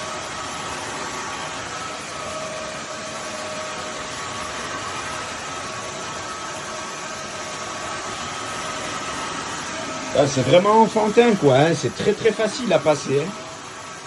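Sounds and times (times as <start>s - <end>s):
vacuum mop whirring: 0.0s - 14.0s.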